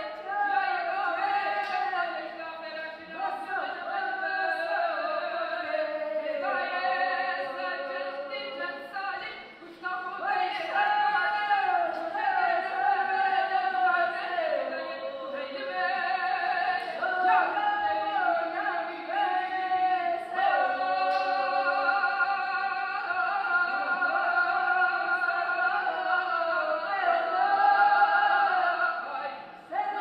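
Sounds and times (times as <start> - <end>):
voices singing together: 0.0 - 30.0.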